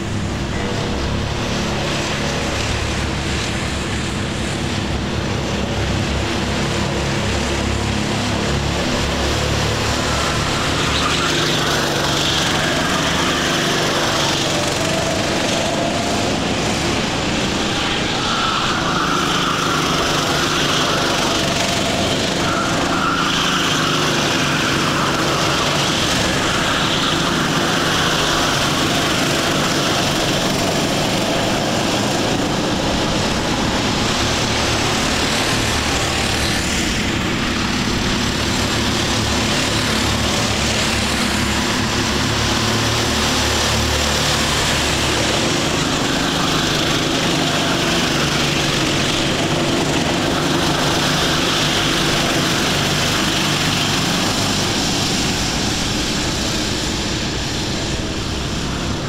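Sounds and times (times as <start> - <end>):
kart engines racing past: 0.0 - 59.0.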